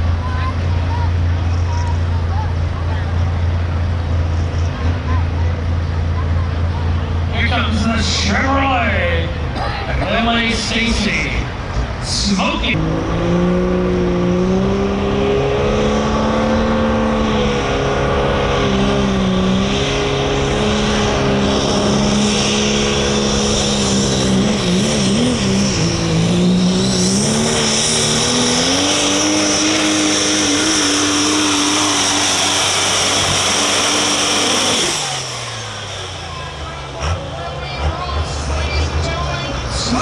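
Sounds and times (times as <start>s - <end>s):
diesel truck engine revving hard: 0.0s - 40.0s.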